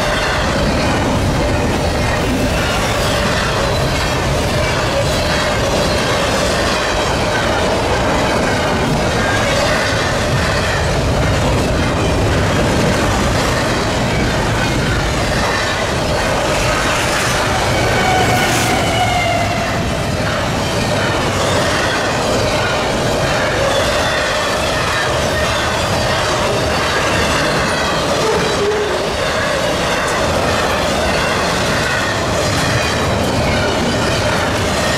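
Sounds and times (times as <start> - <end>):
steel wheels rumbling on rail: 0.0 - 34.9.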